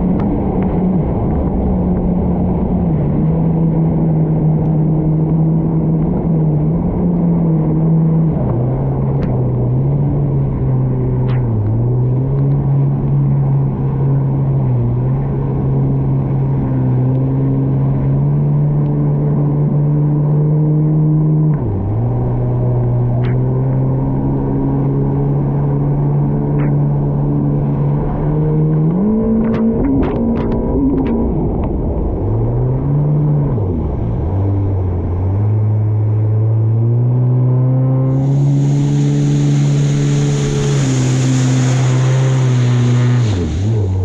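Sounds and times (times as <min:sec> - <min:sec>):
personal watercraft engine droning: 0:00.0 - 0:44.0.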